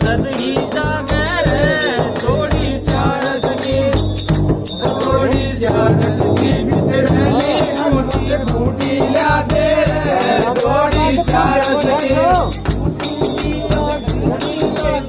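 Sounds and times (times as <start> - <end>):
frame drum beat: 0.0 - 15.0
men singing together: 0.0 - 15.0
high jingling strokes: 0.3 - 15.0.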